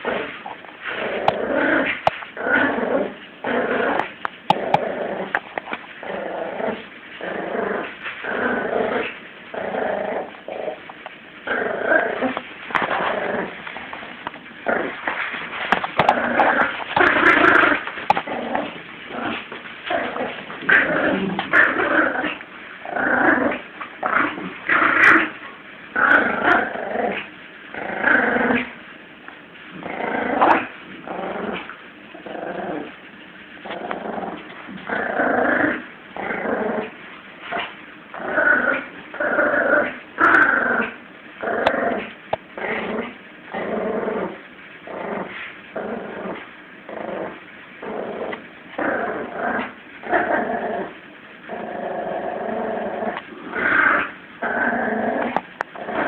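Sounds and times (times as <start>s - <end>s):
puppy growling: 0.0s - 28.8s, 29.7s - 33.0s, 33.6s - 56.0s.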